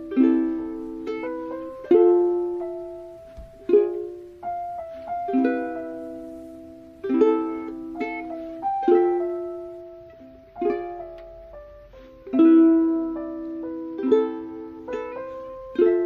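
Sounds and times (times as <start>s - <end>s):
soft plucked-string chords: 0.0s - 16.0s.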